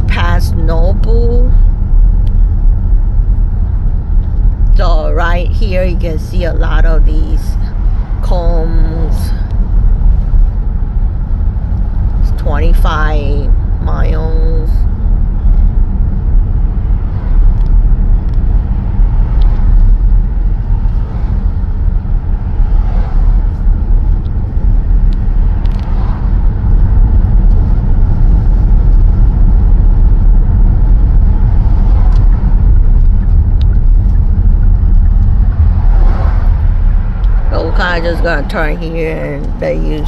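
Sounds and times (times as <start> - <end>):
car road and tyre noise: 0.0 - 40.0.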